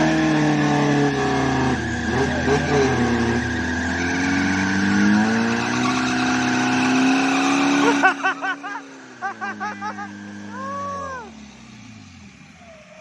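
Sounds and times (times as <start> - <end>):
car engine under load: 0.0 - 13.0.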